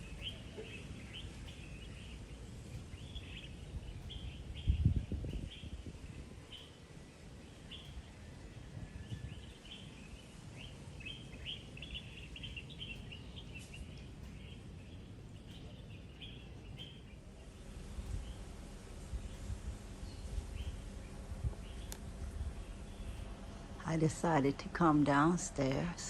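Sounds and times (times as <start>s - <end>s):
low background rumble: 0.0s - 26.0s
small birds chirping: 0.0s - 26.0s.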